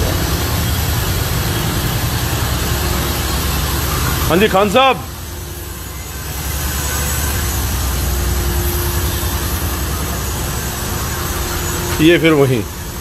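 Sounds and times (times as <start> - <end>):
machinery low rumble: 0.0 - 13.0
thin steady hum: 0.0 - 13.0.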